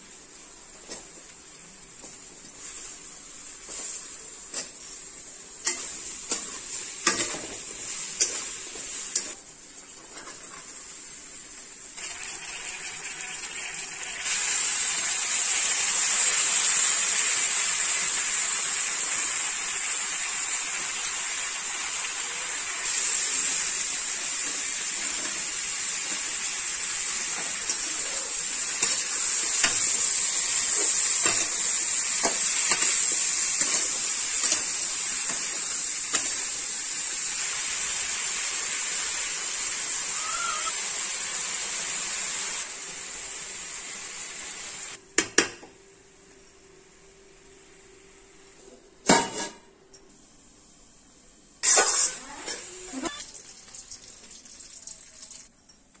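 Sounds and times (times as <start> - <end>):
vegetables frying with a sizzle: 0.0 - 45.0, 51.6 - 55.5.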